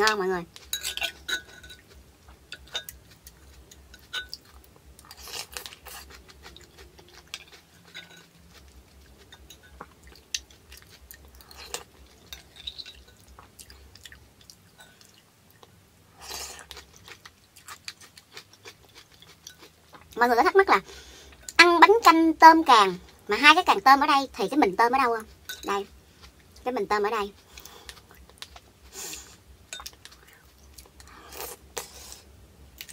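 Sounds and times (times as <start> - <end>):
person chewing noodles: 0.5 - 20.2, 25.3 - 26.6, 27.3 - 32.9.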